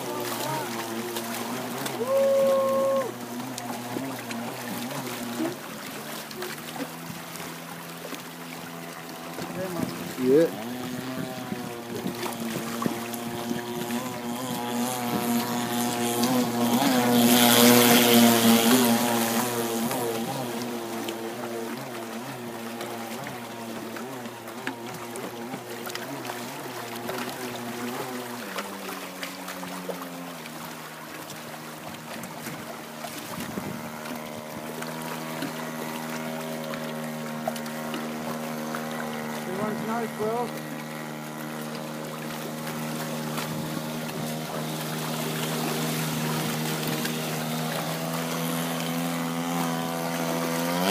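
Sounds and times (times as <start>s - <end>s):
model speedboat engine: 0.0s - 50.9s.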